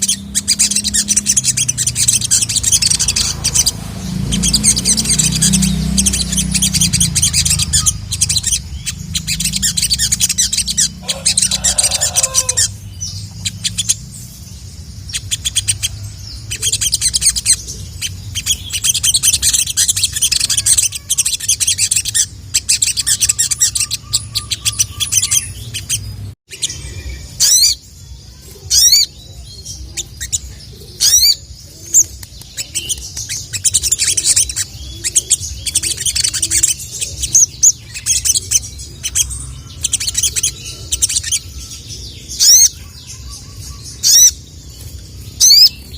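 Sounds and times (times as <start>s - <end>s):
sunbird chirping and trilling: 0.0s - 45.9s.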